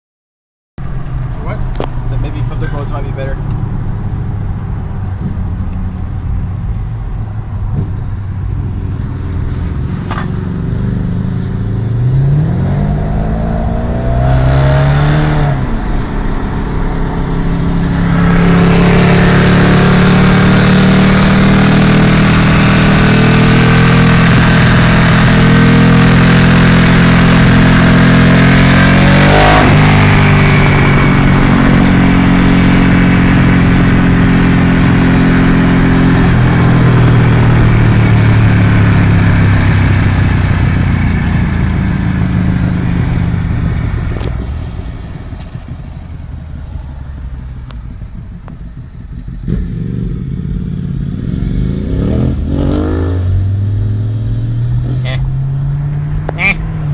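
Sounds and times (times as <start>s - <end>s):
road noise: 0.8s - 56.9s
motorcycle engine revving: 7.7s - 56.9s.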